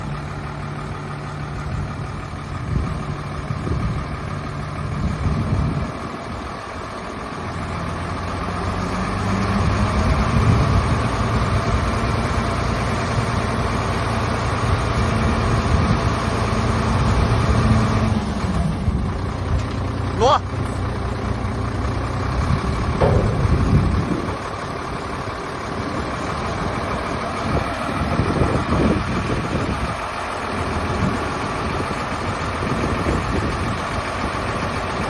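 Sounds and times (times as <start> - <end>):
truck diesel engine running: 0.0 - 35.0.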